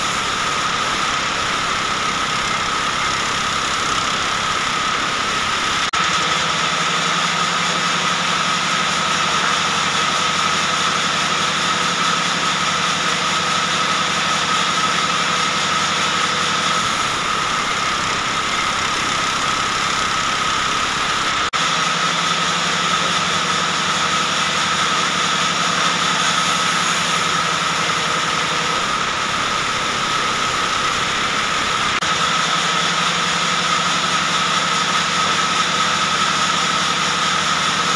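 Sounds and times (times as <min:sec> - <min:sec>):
band saw cutting wood: 0:00.0 - 0:37.9.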